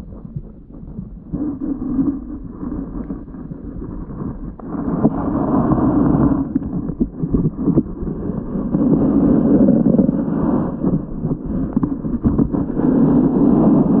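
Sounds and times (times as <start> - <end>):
muffled underwater water rush: 0.0 - 14.0.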